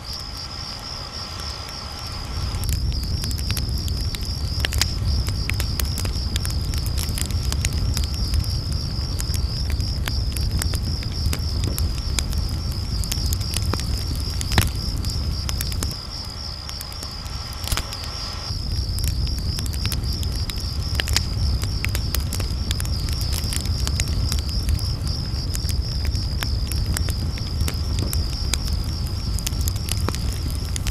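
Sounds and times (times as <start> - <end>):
campfire crackling and popping: 0.0 - 30.9
crickets chirring: 0.0 - 30.9
low rumble: 0.0 - 30.9.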